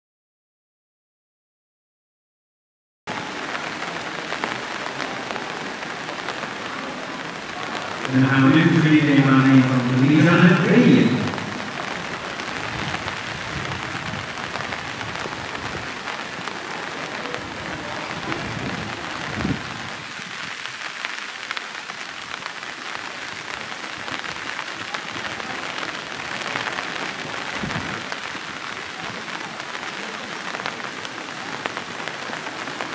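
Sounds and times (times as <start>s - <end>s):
steady rain pattering: 3.1s - 32.9s.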